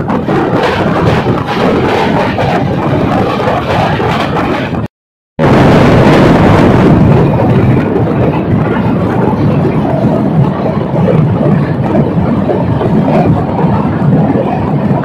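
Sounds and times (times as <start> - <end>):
train wheels on rails in tunnel: 0.0 - 4.9, 6.2 - 15.0
wind rushing: 0.0 - 15.0.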